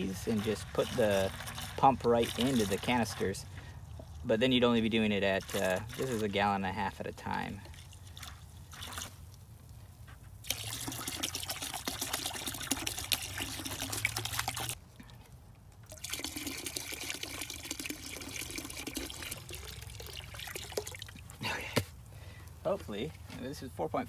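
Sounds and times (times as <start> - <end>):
liquid pouring into a bucket: 0.0 - 9.4, 10.4 - 14.8, 15.8 - 21.4.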